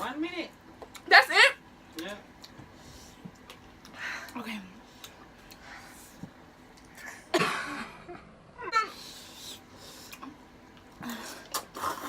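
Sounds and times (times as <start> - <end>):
soft eating sounds: 0.4 - 7.3, 8.8 - 12.0.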